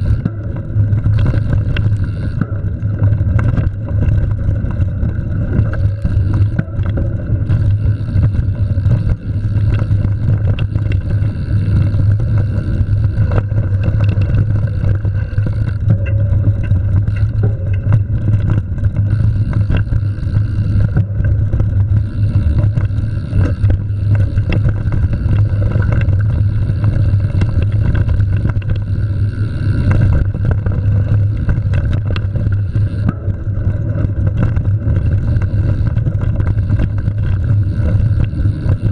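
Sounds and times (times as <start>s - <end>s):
bike rattling over bumps: 0.0s - 38.9s.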